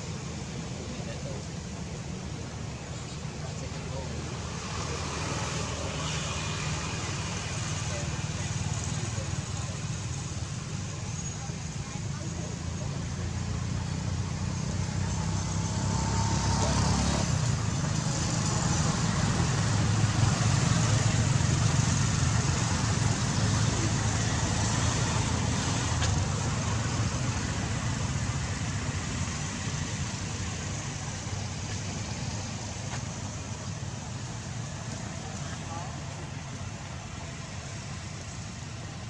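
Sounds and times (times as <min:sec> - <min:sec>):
vehicle engine low rumble: 0:00.0 - 0:39.0.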